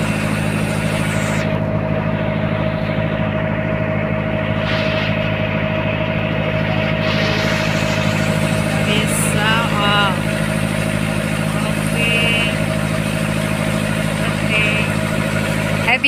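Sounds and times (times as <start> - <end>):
boat engine droning: 0.0 - 16.0
water rushing along hull: 0.0 - 16.0.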